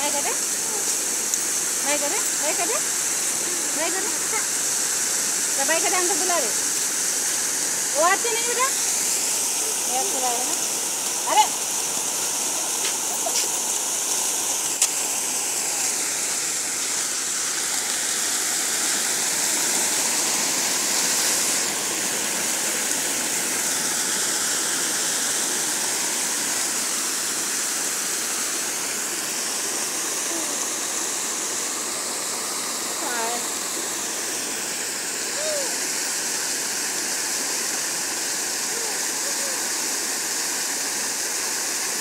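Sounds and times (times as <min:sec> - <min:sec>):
fountain water pouring and splashing: 0:00.0 - 0:42.0.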